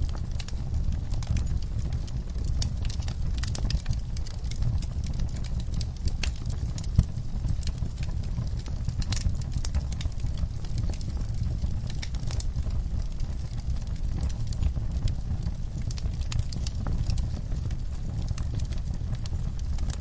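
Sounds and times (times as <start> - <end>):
fire crackling and popping: 0.0 - 20.0
wood fire burning: 0.0 - 20.0.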